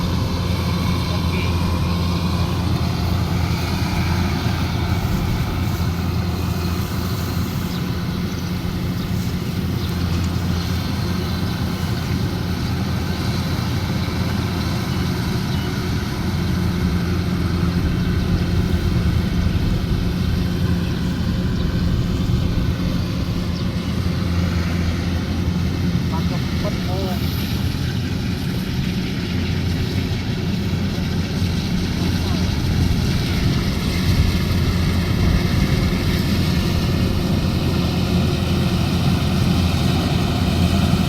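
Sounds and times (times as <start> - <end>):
combine harvester engine droning: 0.0 - 41.0.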